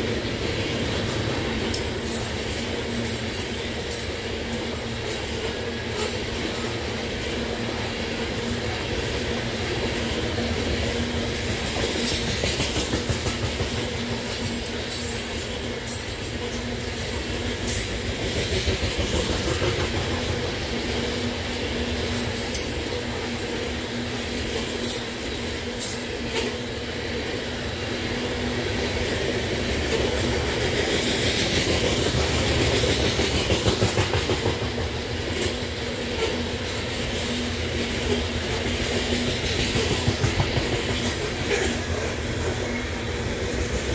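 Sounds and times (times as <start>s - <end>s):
wheels clacking over rail joints: 0.0s - 7.9s, 8.7s - 26.8s, 28.1s - 43.9s
steel wheels rumbling on rail: 0.0s - 43.9s.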